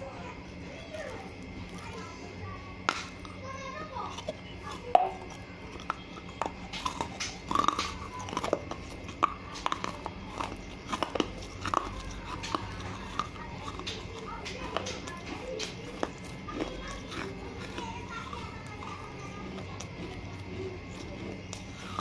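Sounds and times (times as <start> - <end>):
crunchy chewing: 0.0 - 22.0.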